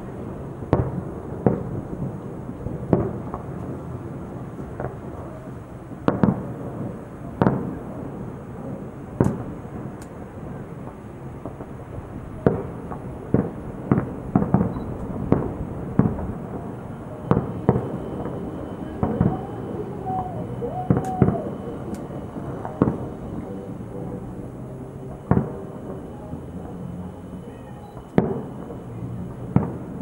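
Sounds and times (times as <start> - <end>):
echo of booms: 0.0 - 30.0
fireworks shells booming: 0.0 - 30.0.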